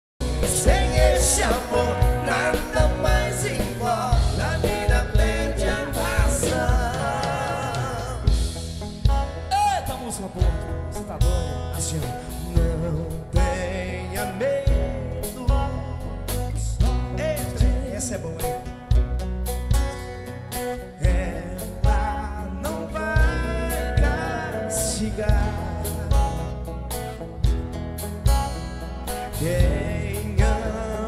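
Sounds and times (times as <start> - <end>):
man singing: 0.2 - 19.0, 20.8 - 26.7, 29.2 - 31.0
acoustic guitar: 0.2 - 31.0
drum kit: 0.2 - 31.0.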